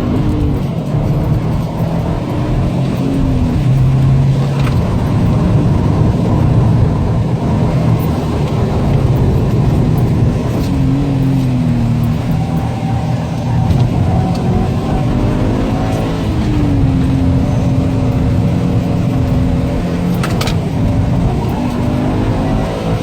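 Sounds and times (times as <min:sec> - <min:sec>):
car engine running hard: 0:00.0 - 0:23.0
road and wind noise: 0:00.0 - 0:23.0.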